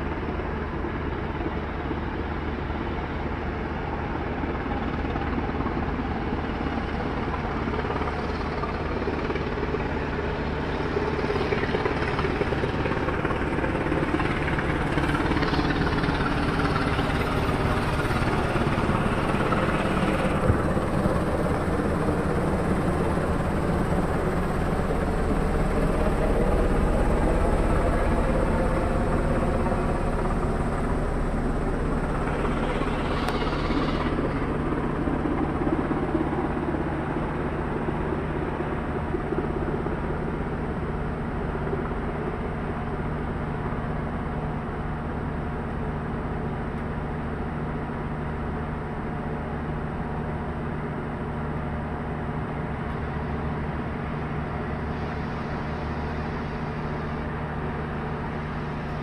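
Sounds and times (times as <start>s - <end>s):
helicopter flying overhead: 0.0s - 59.0s.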